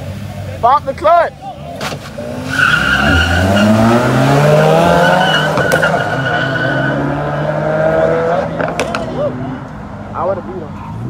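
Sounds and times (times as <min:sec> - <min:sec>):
tires squealing: 0:01.4 - 0:11.0
car engine revving: 0:01.8 - 0:11.0.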